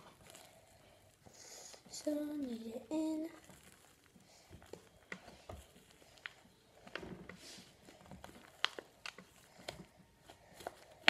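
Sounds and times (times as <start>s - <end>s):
sticky slime squishes: 0.0s - 11.0s.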